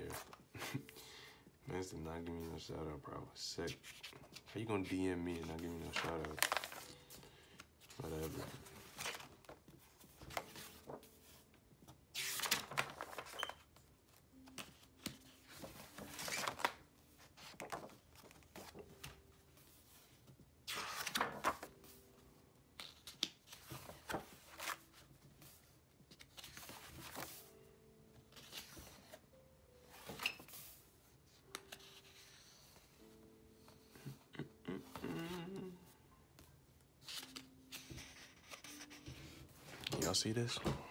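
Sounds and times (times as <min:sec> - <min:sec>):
paper pages rustling: 0:00.0 - 0:00.9, 0:03.7 - 0:22.1, 0:22.8 - 0:29.2, 0:29.9 - 0:34.2, 0:37.0 - 0:40.9.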